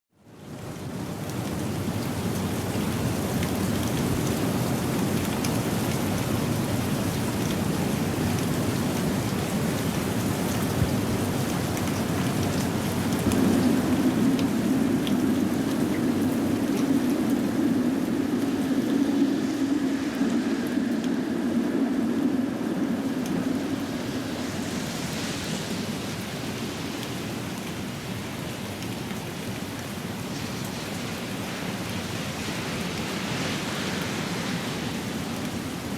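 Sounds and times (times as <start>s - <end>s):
rain falling on pavement: 0.2s - 35.9s
vehicle on wet road: 0.7s - 35.9s.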